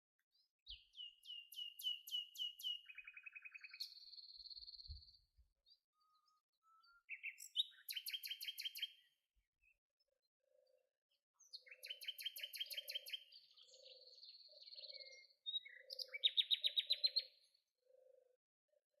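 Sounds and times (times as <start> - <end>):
songbirds trilling: 0.4 - 9.8, 11.4 - 18.4.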